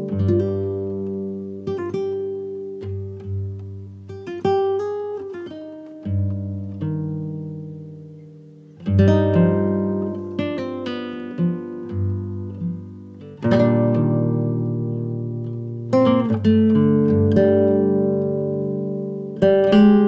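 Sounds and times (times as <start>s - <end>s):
plucked guitar music: 0.0s - 20.0s.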